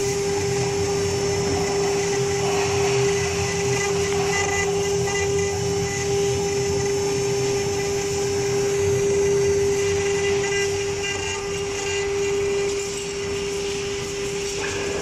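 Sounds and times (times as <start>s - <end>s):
router spindle whine: 0.0s - 15.0s.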